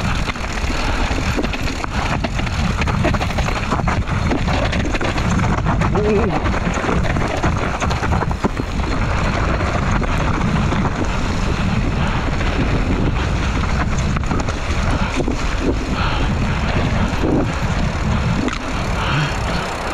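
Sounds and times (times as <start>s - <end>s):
bike clattering over bumps: 0.0s - 19.9s
tyres rolling over dirt: 0.0s - 19.9s
wind buffeting microphone: 0.0s - 19.9s.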